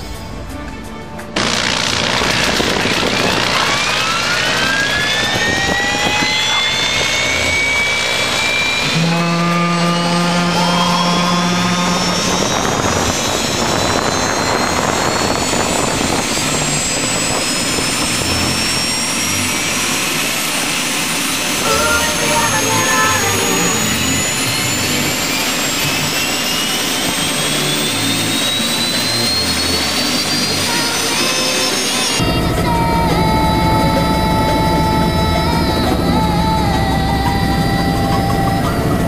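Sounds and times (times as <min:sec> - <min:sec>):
helicopter turbine whine: 0:00.0 - 0:39.0
low buzzing tone: 0:01.4 - 0:39.0.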